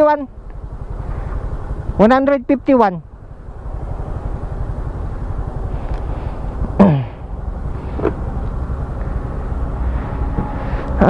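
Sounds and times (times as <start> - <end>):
motorcycle engine idling: 0.0 - 11.0
street traffic rumble: 0.0 - 11.0.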